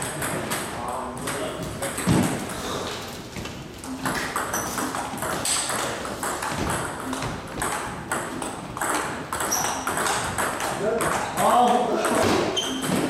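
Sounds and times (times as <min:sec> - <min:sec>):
background table tennis rallies: 0:00.0 - 0:13.0
table tennis balls clicking: 0:00.0 - 0:13.0.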